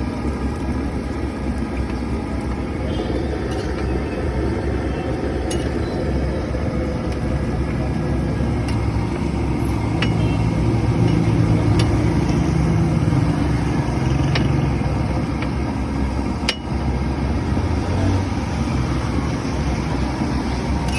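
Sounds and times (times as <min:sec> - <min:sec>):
steady low rumble: 0:00.0 - 0:17.4.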